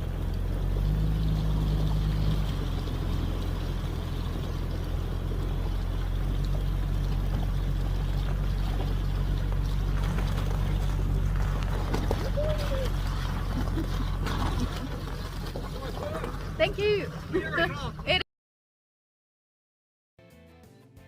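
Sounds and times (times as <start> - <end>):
engine running at low revs: 0.0 - 18.2
water rushing and splashing: 0.0 - 18.2.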